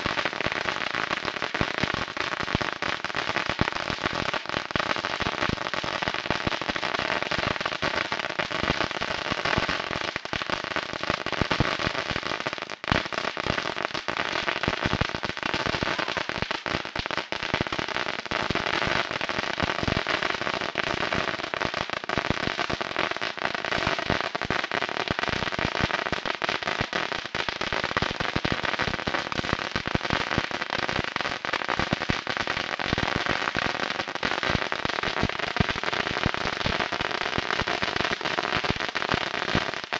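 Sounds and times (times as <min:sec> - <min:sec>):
firecrackers popping: 0:00.0 - 0:39.9.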